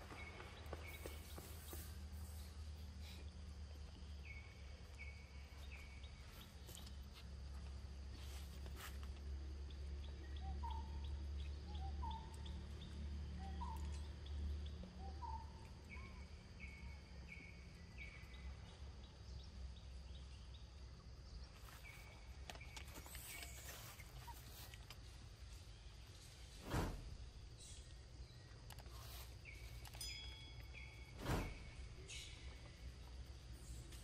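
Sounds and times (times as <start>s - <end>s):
birds calling: 0.0s - 7.7s, 9.7s - 34.0s.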